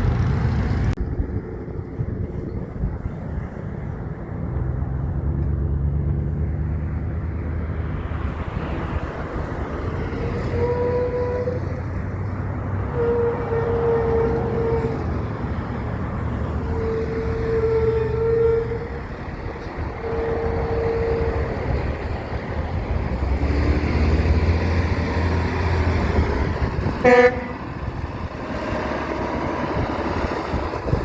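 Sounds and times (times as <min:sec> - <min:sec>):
truck traffic passing: 0:00.0 - 0:31.0.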